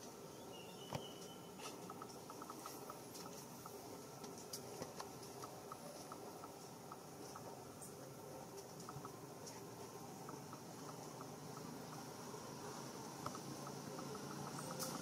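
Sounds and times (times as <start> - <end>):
steady high hiss: 0.0 - 15.0
small clicks and ticks: 1.2 - 15.0.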